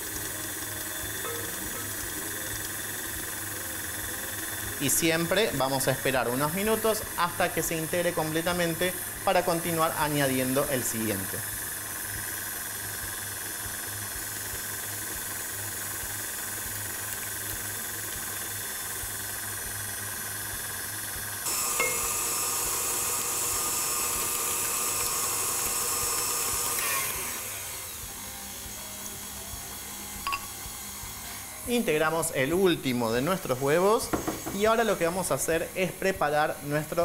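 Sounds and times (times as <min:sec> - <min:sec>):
stand mixer motor whine: 0:00.0 - 0:35.4.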